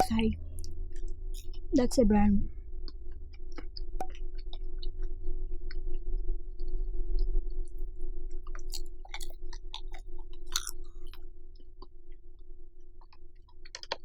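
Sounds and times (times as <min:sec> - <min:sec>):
steady low hum: 0:00.0 - 0:13.7
wet crackly chewing: 0:00.6 - 0:01.7, 0:02.8 - 0:12.2, 0:12.9 - 0:14.0.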